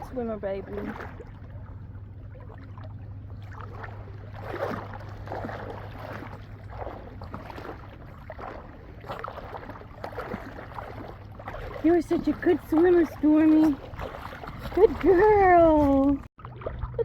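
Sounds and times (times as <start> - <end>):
steady low hum: 0.0 - 17.0
water sloshing and splashing: 0.0 - 17.0.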